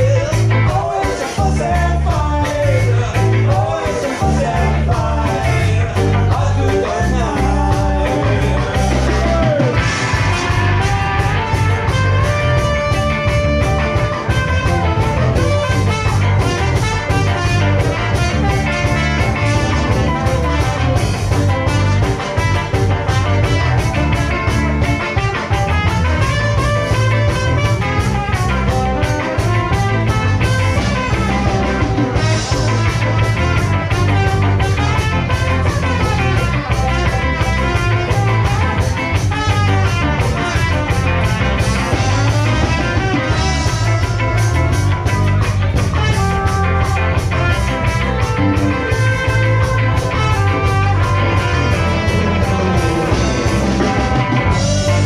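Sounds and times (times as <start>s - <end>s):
electric bass: 0.0s - 55.0s
guitar: 0.0s - 55.0s
steady drum beat: 0.0s - 55.0s
trumpet lines: 9.1s - 55.0s.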